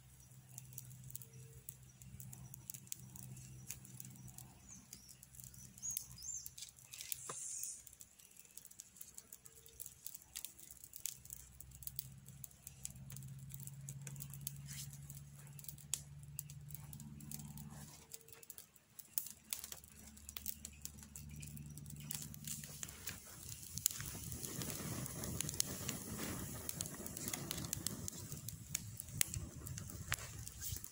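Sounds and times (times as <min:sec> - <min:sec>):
campfire crackling and popping: 0:00.0 - 0:30.9
low steady hum: 0:00.0 - 0:30.9.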